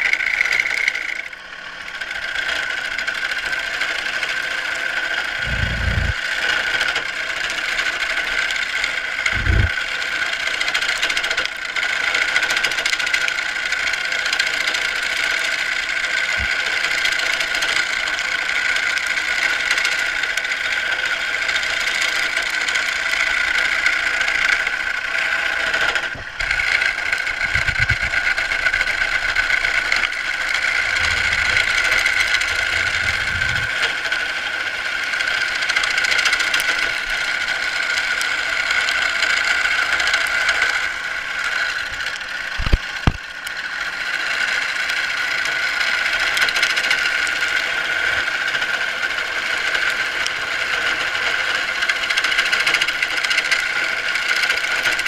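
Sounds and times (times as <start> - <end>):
wood lathe running: 0.0 - 55.0.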